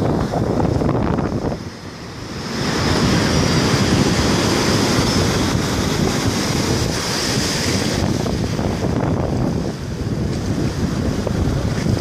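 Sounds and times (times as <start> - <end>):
surf breaking: 0.0 - 12.0
wind buffeting microphone: 0.0 - 12.0.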